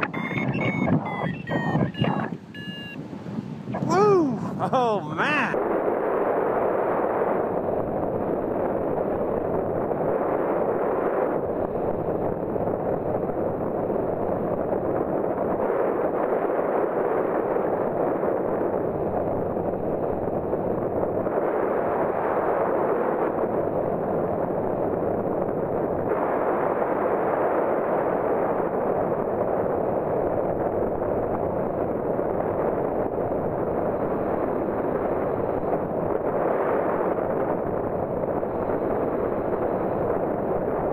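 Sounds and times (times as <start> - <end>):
wind roaring over microphone: 0.0 - 40.9.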